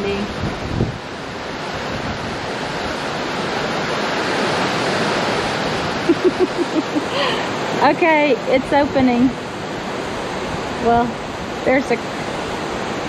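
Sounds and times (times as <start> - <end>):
water rushing in a lock chamber: 0.0 - 13.0.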